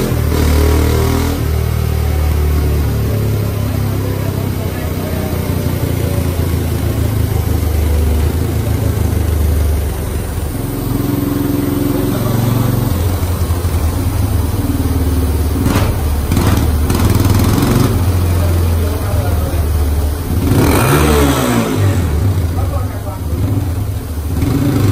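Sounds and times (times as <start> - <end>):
motorcycle engine running under load: 0.0 - 24.9.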